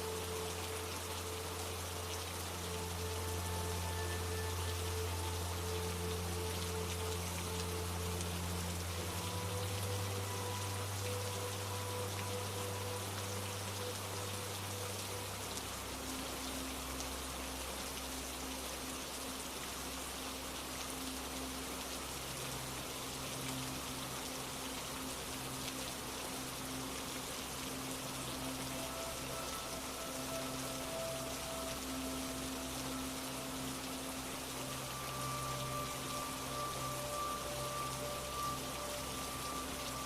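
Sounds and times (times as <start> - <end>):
low relaxation drone: 0.0 - 40.0
steady rainfall: 0.0 - 40.0.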